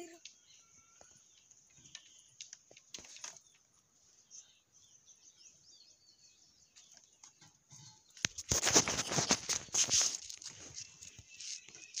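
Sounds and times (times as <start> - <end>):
faint bird chirps: 0.0 - 8.4, 9.5 - 12.0.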